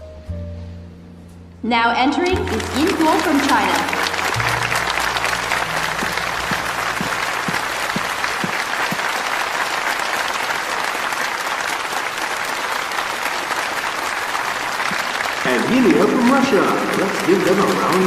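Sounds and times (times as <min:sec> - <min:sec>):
audience applauding: 0:02.2 - 0:18.0.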